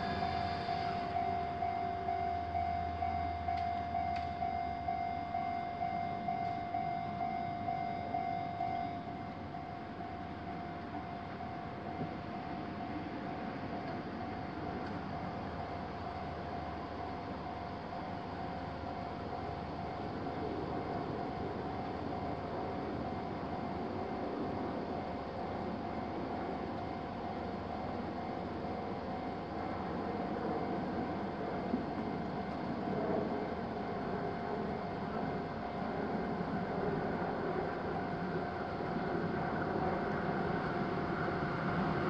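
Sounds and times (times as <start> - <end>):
railroad crossing warning bell: 0.0 - 42.0.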